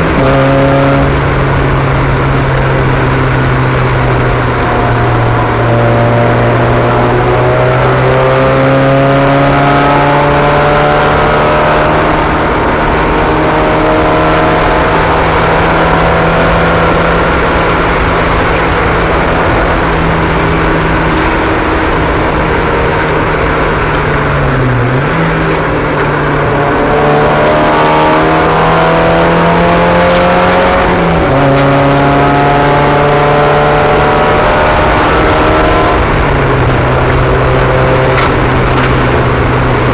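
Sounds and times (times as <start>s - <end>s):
other cars' engines passing: 0.0s - 39.9s
racing car engines at high speed: 0.0s - 39.9s.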